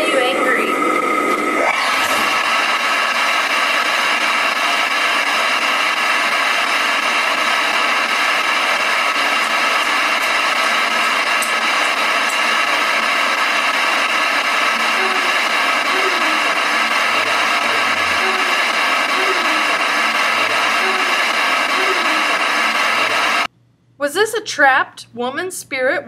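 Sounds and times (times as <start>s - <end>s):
loud static hiss: 0.0s - 23.5s.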